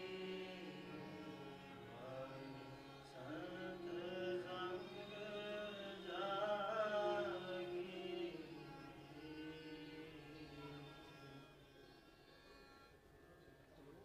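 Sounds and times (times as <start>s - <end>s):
bowed string instrument: 0.0s - 14.0s
harmonium drone: 0.0s - 14.0s.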